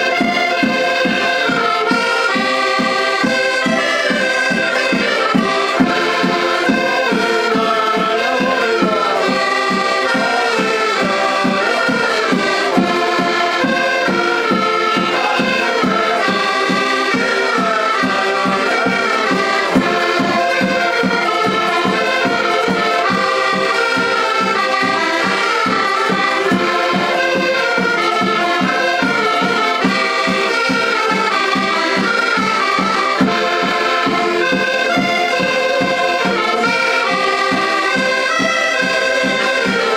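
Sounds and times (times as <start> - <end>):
button accordions playing folk tune: 0.0 - 39.9.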